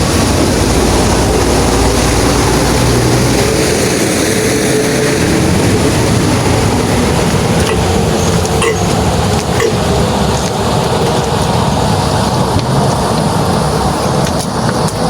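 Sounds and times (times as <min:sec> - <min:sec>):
heavy truck engine rumbling: 0:00.0 - 0:15.0.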